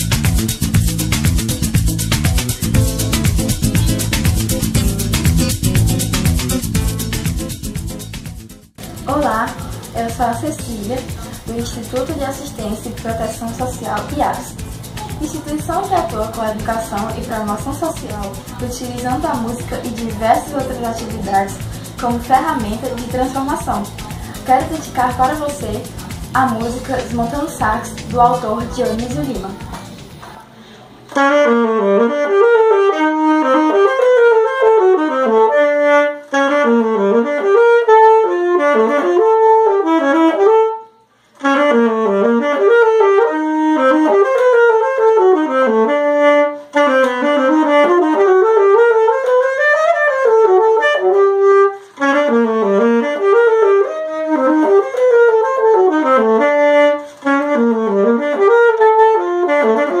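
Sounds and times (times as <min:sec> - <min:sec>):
alto saxophone fast melody: 0:00.0 - 0:30.2, 0:31.1 - 1:00.0.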